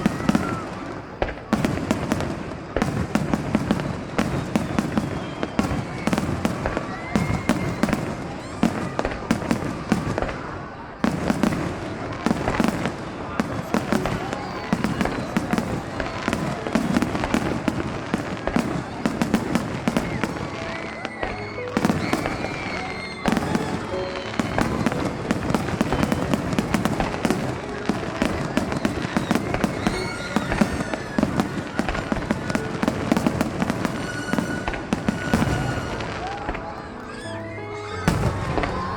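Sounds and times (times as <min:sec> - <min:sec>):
firework shells booming: 0:00.0 - 0:36.8, 0:38.1 - 0:38.9
fireworks crackle: 0:00.0 - 0:38.9.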